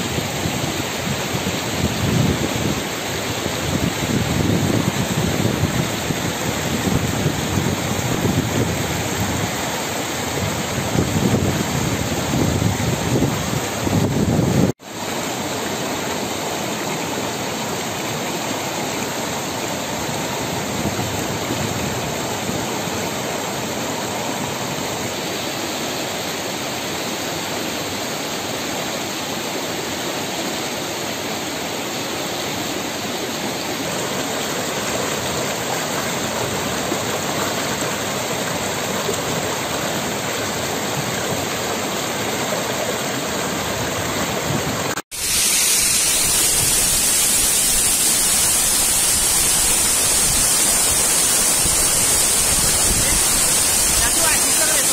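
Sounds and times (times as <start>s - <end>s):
stream rushing over stones: 0.0s - 54.9s.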